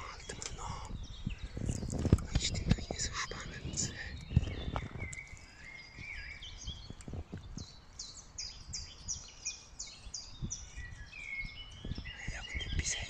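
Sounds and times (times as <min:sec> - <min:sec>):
songbirds calling and singing: 0:00.0 - 0:13.0.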